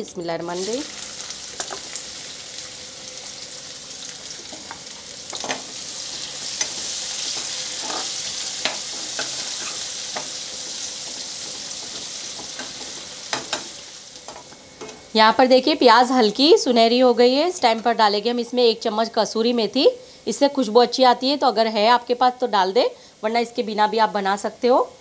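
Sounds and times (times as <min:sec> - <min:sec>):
onion sizzling in hot oil: 0:00.4 - 0:24.8.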